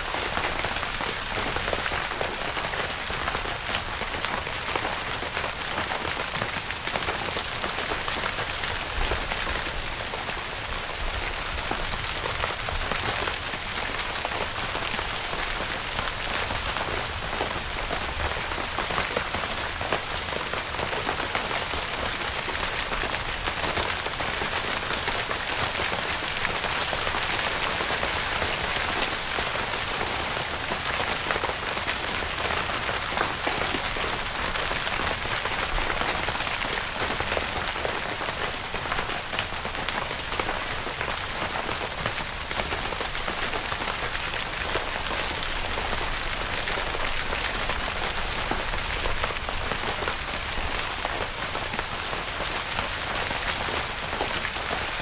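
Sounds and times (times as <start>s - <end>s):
rain on tent fabric: 0.0s - 55.0s.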